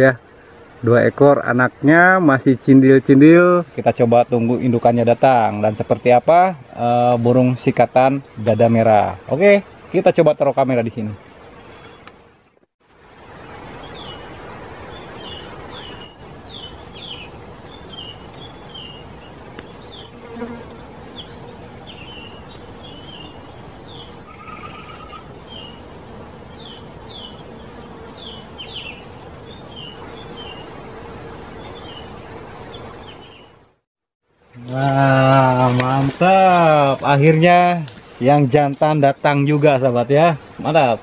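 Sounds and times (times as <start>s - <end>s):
insects trilling: 0.0s - 33.8s, 34.4s - 41.0s
lower insect buzz: 0.0s - 41.0s.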